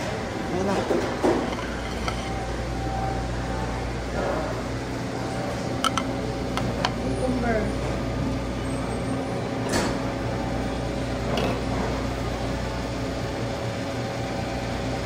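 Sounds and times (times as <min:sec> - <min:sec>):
mechanical hum of equipment: 0:00.0 - 0:15.0.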